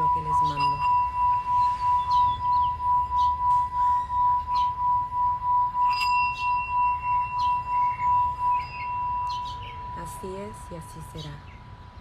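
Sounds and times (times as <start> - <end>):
singing bowl ringing: 0.0 - 11.6.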